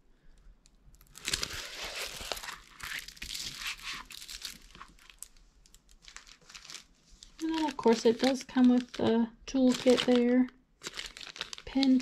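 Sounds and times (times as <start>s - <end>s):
plastic film crinkling: 1.0s - 12.0s.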